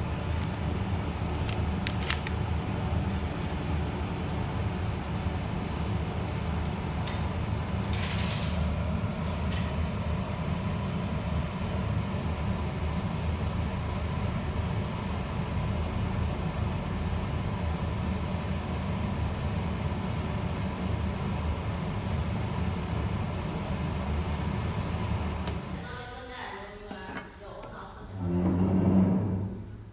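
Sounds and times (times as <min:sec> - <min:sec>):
pot boiling and bubbling: 0:00.0 - 0:25.8.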